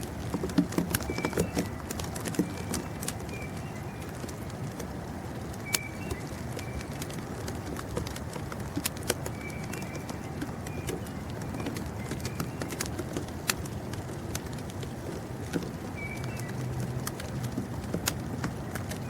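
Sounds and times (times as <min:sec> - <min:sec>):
sharp ticks: 0:00.4 - 0:19.0.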